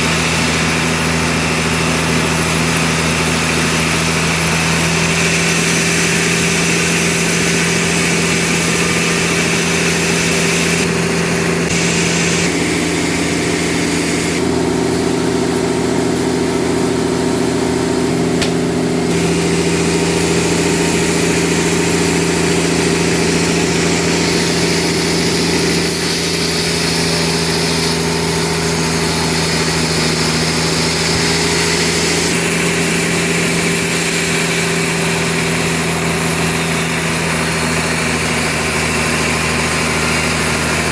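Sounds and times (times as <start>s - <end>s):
engine hum: 0.0s - 40.9s
high machinery hiss: 0.0s - 40.9s.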